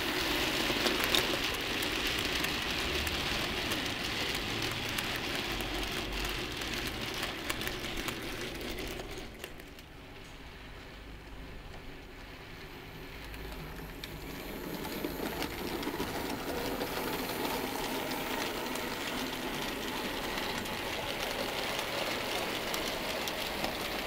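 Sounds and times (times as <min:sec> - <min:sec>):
wagons rattling over rails: 0:00.0 - 0:09.9, 0:12.6 - 0:24.0.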